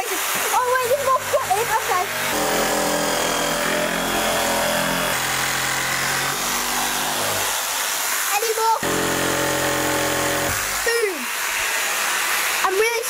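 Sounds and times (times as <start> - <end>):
electric power tool motor whine: 0.8 - 8.1, 8.8 - 12.6.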